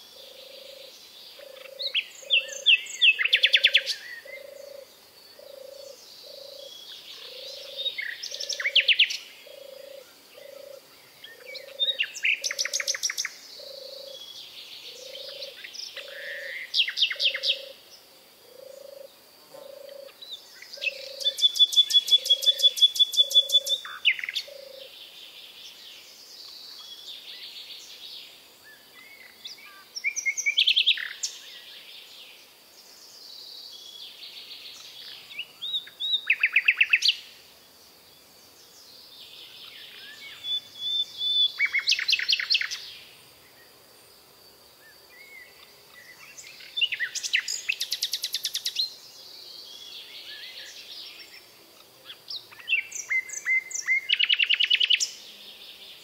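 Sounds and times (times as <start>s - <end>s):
songbird trills: 0.0s - 37.4s, 38.6s - 43.6s, 44.8s - 56.0s.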